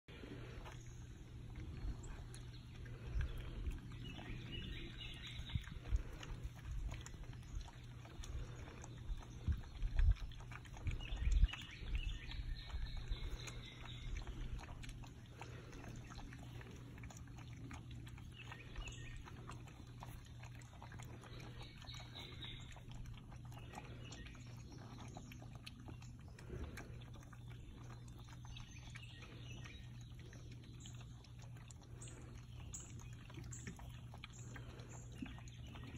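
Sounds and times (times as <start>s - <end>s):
puppies crunching dry kibble: 0.1s - 35.9s.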